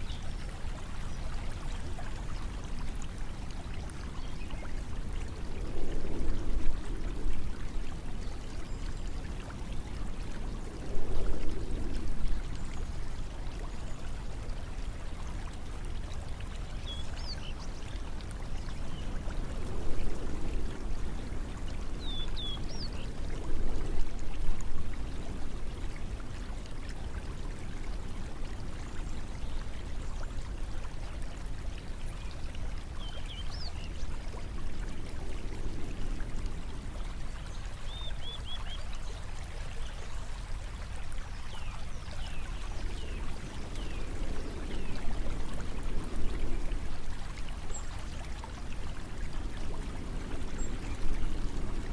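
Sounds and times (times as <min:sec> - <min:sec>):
stream water flowing: 0:00.0 - 0:51.9.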